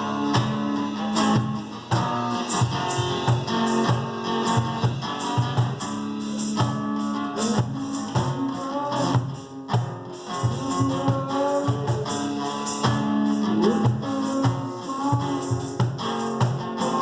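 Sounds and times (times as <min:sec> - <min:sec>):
acoustic guitar strumming: 0:00.0 - 0:17.0
percussion beat: 0:00.0 - 0:17.0.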